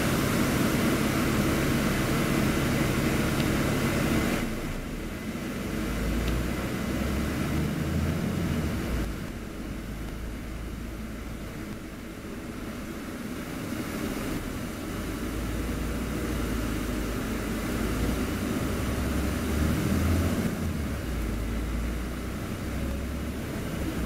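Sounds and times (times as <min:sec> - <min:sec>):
bus engine and road noise: 0:00.0 - 0:24.0.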